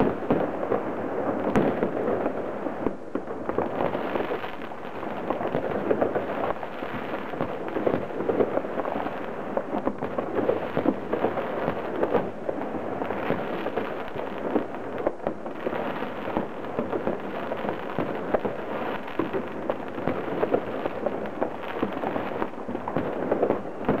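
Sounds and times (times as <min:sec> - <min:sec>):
distant fireworks crackling: 0:00.0 - 0:24.0.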